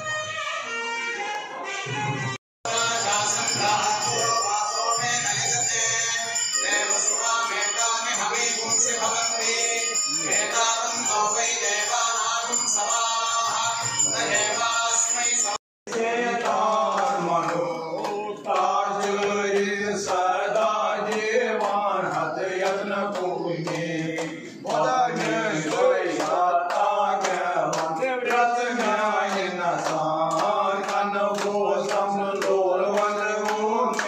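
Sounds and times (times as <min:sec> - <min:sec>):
men chanting together: 0:02.7 - 0:34.0.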